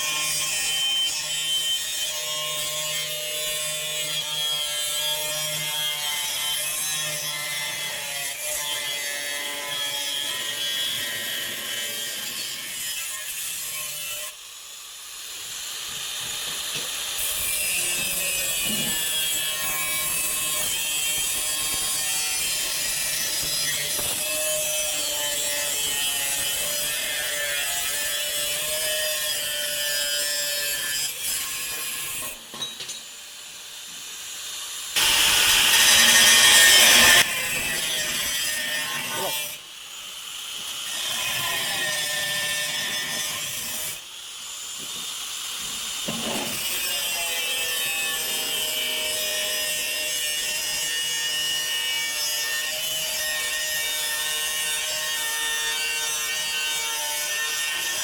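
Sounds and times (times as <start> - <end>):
sawing sheet metal: 0.0 - 32.5, 34.9 - 39.6, 40.7 - 44.1, 45.8 - 58.0.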